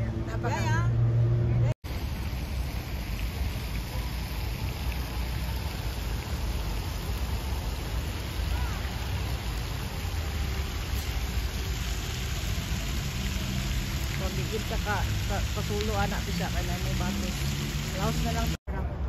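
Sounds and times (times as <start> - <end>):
low rumble of city traffic: 0.0 - 19.0
water rushing: 1.8 - 18.6.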